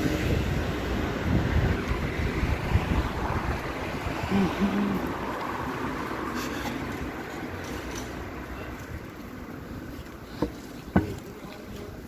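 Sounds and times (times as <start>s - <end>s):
passing vehicle rumble: 0.0s - 9.9s.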